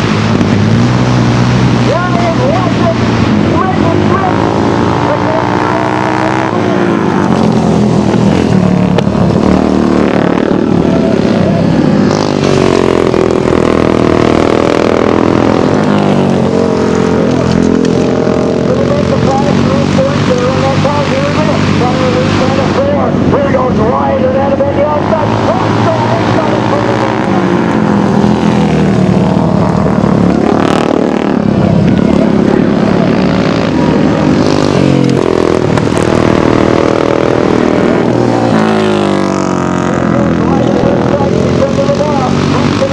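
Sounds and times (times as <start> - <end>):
racing engines revving: 0.0 - 42.9.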